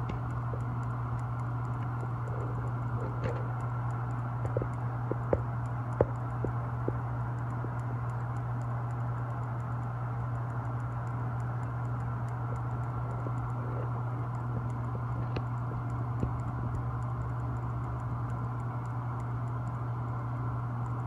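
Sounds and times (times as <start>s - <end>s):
sharp clicks: 0.0s - 19.9s
low mechanical drone: 0.0s - 21.0s.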